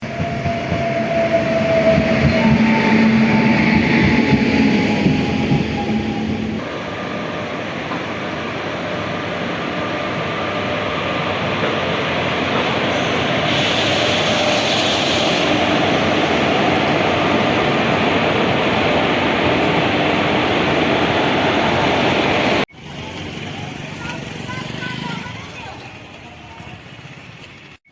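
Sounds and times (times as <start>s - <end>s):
train rumbling along track: 0.0s - 27.8s.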